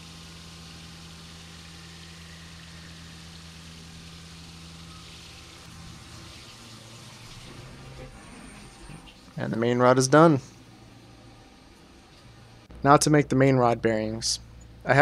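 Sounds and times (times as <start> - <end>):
milling machine hum: 0.0 - 12.7.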